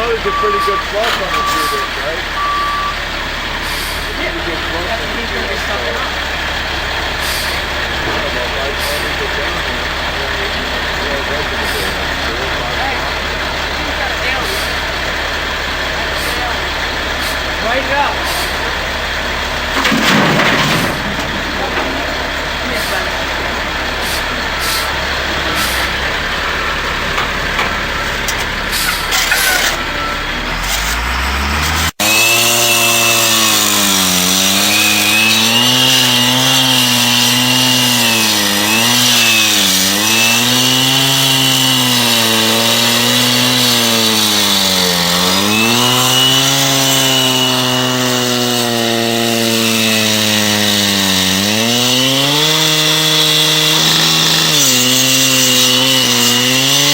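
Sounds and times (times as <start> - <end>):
high-revving motor: 0.0 - 56.9
steady engine running: 0.0 - 56.9.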